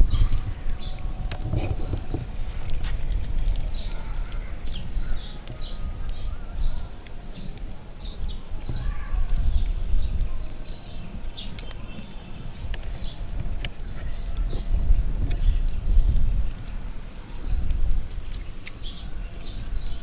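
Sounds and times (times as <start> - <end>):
steady low rumble: 0.0 - 19.8
small birds chirping: 0.0 - 20.0.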